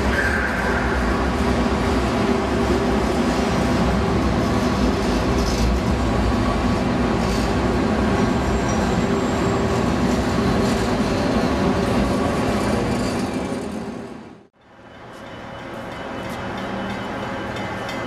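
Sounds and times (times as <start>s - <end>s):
light-rail train passing: 0.0s - 18.0s.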